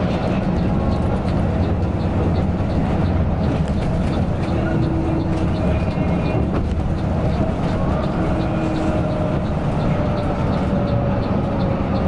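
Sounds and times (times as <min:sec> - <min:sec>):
coach bus rumbling: 0:00.0 - 0:12.0
faint regular ticking: 0:00.1 - 0:12.0.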